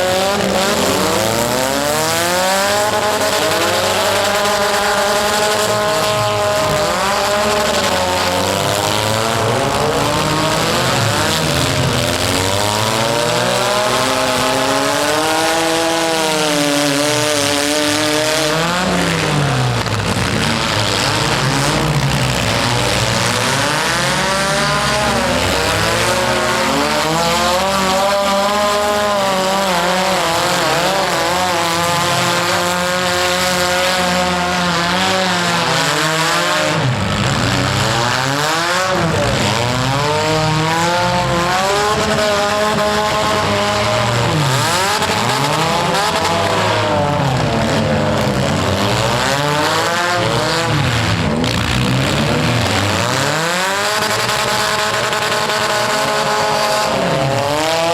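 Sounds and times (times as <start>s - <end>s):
car engines revving hard: 0.0s - 57.9s.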